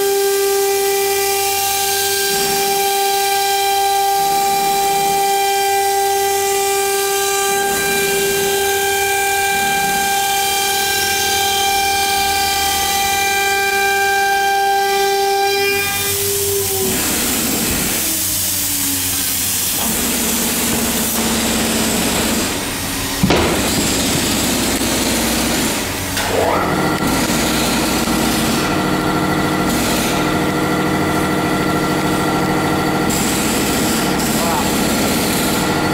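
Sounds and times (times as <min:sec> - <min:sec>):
router spindle whine: 0:00.0 - 0:35.9.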